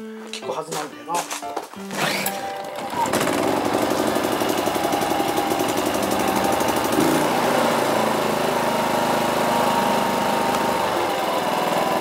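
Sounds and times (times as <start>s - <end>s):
generator engine running: 1.9s - 12.0s.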